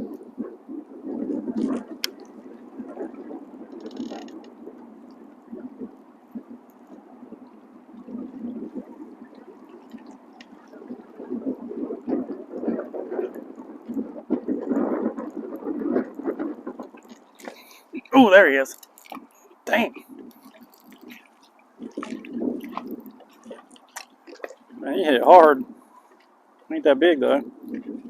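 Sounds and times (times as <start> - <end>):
water lapping against boat: 0.0 - 28.0.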